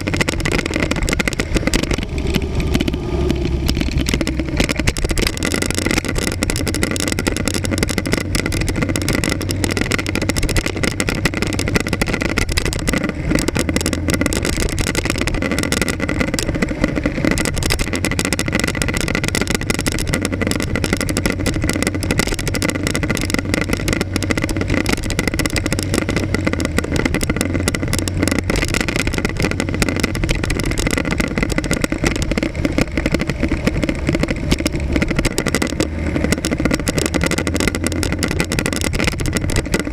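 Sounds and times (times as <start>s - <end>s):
motorcycle engine running: 0.0s - 39.9s
road noise: 0.0s - 39.9s
traffic: 0.0s - 39.9s
wind noise: 0.0s - 39.9s.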